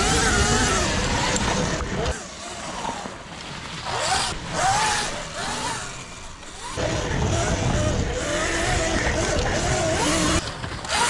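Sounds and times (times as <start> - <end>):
electric dirt bike motor whining: 0.0 - 11.0.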